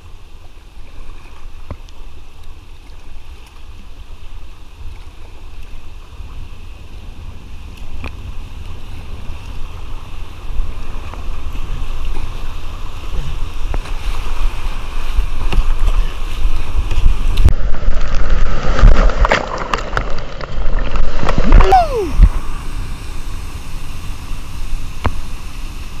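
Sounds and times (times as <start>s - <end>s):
paddle stroke splashes: 0.0s - 26.0s
whitewater rushing: 2.0s - 26.0s
wind buffeting microphone: 3.3s - 26.0s.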